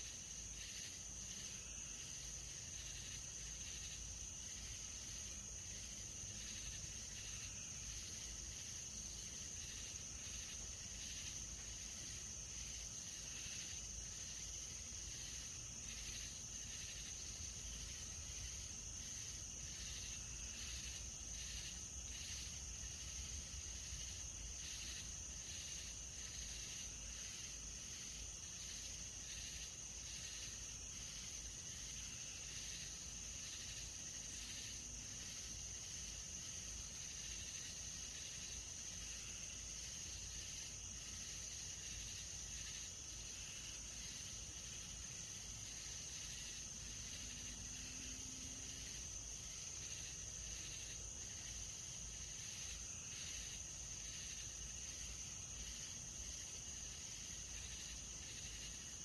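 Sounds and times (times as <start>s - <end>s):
crickets trilling: 0.0s - 59.0s
insects chirping: 0.0s - 59.0s.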